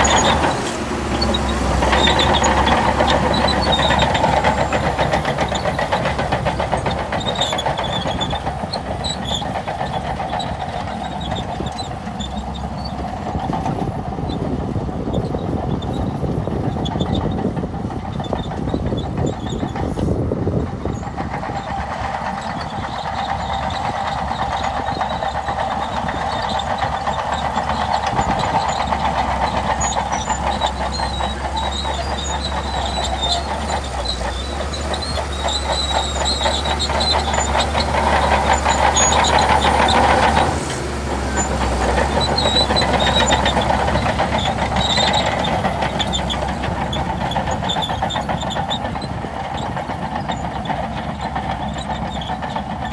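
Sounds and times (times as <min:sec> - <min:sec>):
bulldozer diesel engine under load: 0:00.0 - 0:52.9
rapid clatter: 0:00.0 - 0:52.9.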